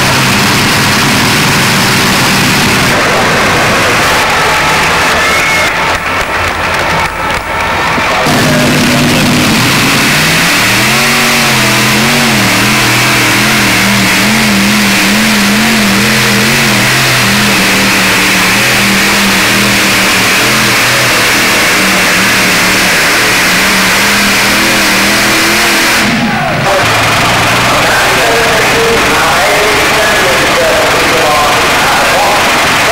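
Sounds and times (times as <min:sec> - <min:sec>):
tractor engines running hard: 0:00.0 - 0:32.9.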